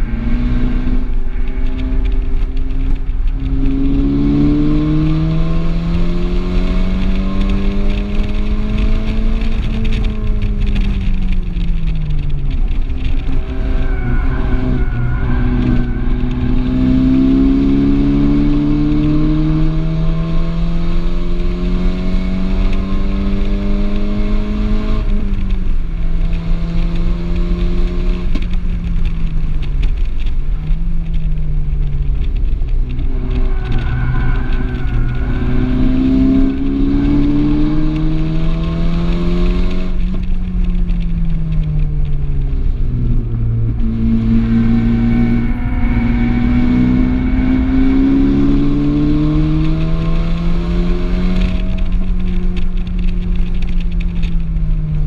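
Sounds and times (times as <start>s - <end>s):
car engine accelerating: 0.0s - 55.0s
road and tyre noise: 0.0s - 55.0s.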